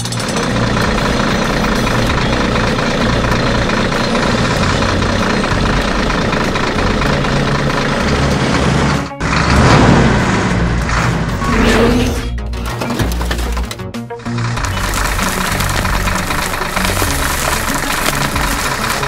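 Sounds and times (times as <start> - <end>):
heavy machine engine running: 0.0 - 19.0.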